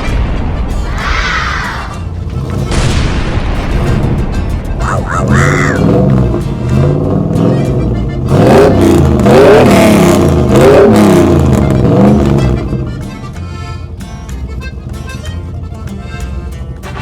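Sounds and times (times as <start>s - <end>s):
vehicle engine revving: 1.9s - 15.7s.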